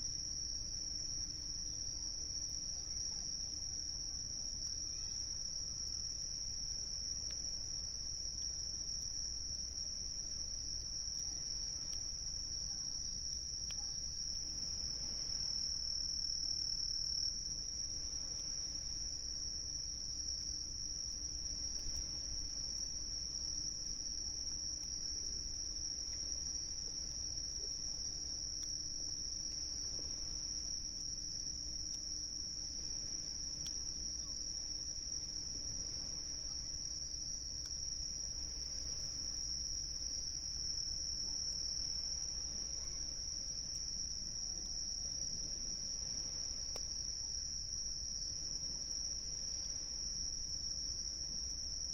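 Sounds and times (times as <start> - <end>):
crickets trilling: 0.0 - 51.9.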